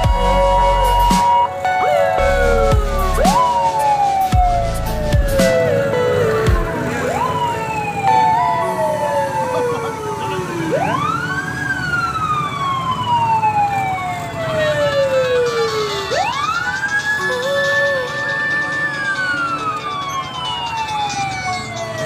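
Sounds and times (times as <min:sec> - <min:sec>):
ambulance siren wailing: 0:00.0 - 0:22.0.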